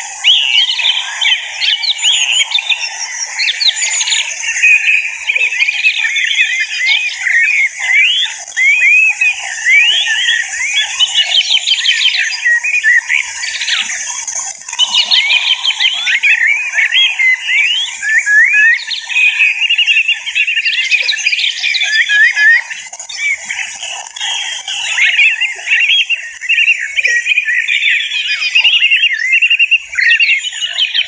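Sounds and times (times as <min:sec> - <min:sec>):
goldfinch twittering song: 0:00.0 - 0:31.0.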